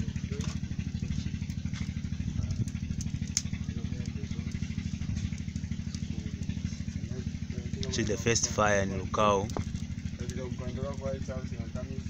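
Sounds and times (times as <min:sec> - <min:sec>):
faint crackles: 0:00.0 - 0:12.0
small engine running: 0:00.0 - 0:12.0.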